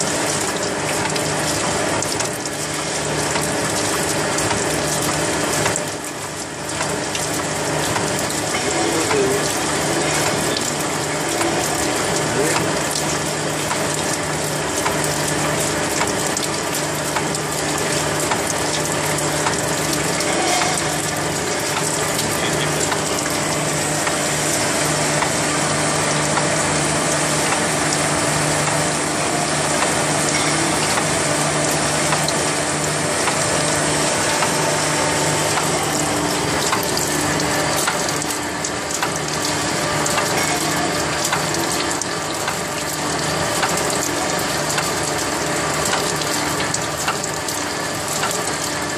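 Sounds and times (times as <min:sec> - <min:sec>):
cutting oil splashing: 0:00.0 - 0:48.9
machine low hum: 0:00.0 - 0:48.9.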